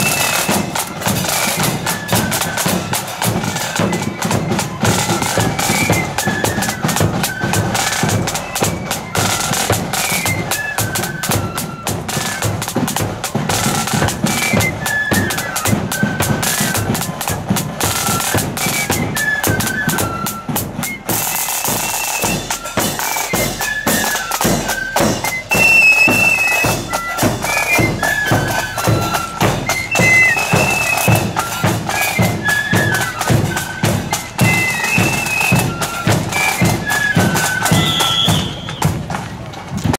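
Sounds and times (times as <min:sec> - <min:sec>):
flutes playing melody: 0:00.0 - 0:39.9
snare drums: 0:00.0 - 0:39.9.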